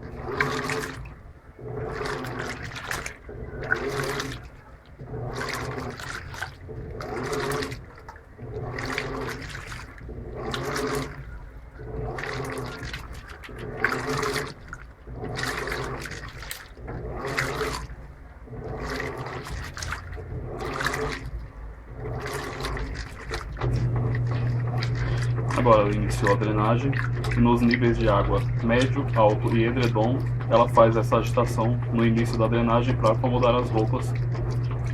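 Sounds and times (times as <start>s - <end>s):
drain pump humming: 0.0s - 34.9s
washing machine churning water: 0.0s - 34.9s.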